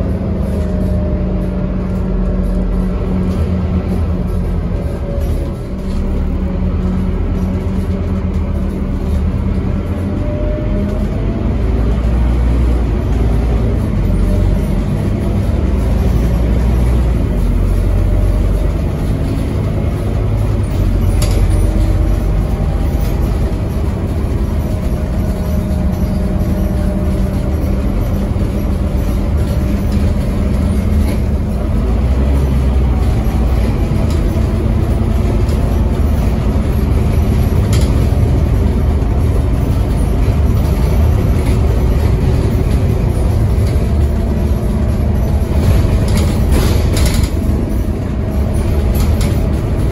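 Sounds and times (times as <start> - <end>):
bus diesel engine rumble: 0.0 - 49.9
road and body noise: 0.0 - 49.9.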